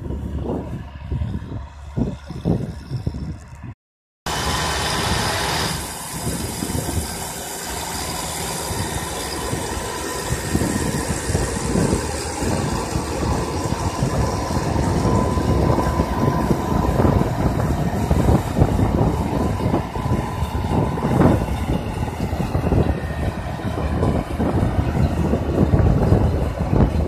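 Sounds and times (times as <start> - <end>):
tractor engine running: 0.0 - 3.7, 4.3 - 27.0.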